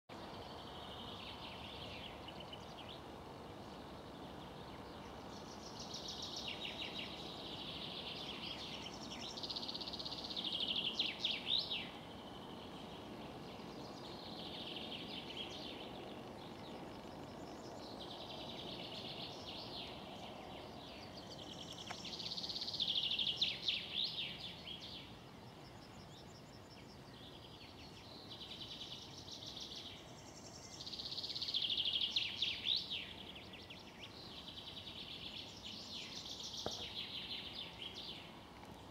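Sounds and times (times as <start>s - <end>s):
low background noise: 0.1s - 38.9s
small birds chirping and trilling: 0.1s - 38.9s.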